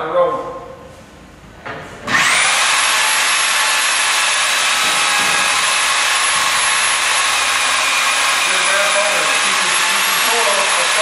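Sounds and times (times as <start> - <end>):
electric motor running loudly: 2.1 - 11.0.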